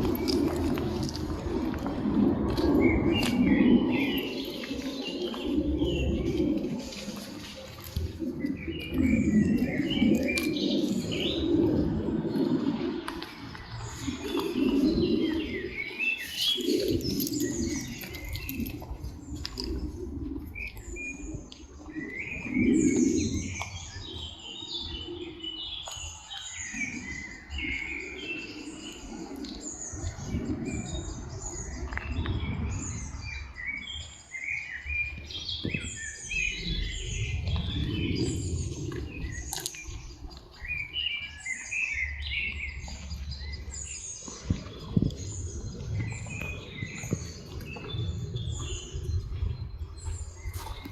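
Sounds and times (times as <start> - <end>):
low rumble: 0.0 - 25.4, 35.1 - 50.9
songbirds chirping and singing: 0.0 - 50.9.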